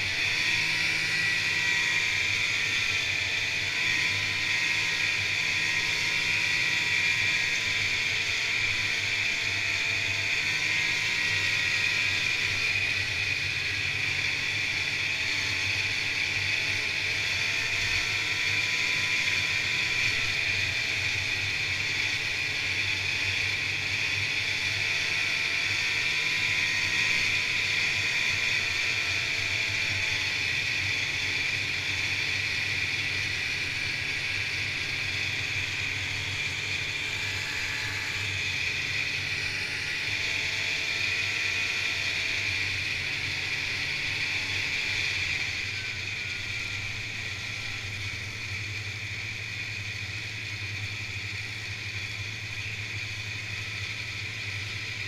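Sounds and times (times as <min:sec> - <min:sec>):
snowmobile engine drone and whine: 0:00.0 - 0:55.0.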